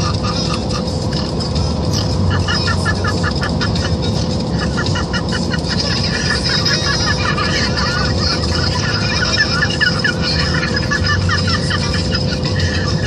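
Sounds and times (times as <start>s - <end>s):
road and engine noise: 0.0s - 13.0s.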